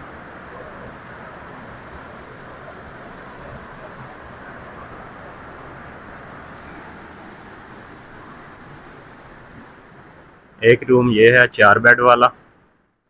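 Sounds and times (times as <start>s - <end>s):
river rushing roar: 0.0s - 12.7s.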